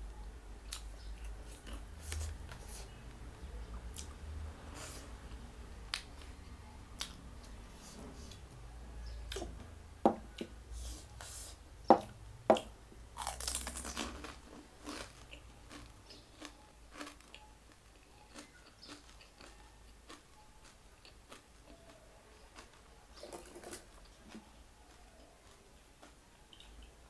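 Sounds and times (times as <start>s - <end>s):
chewing and crunching food: 0.6s - 10.9s, 12.0s - 27.0s.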